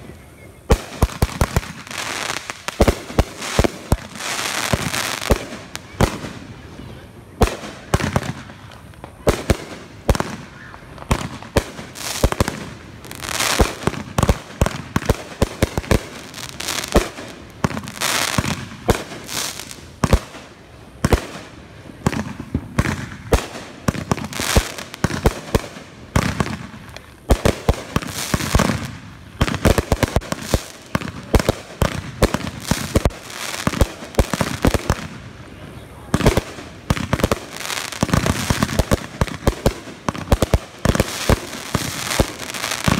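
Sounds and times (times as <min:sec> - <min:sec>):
fireworks bursting: 0:00.0 - 0:42.9.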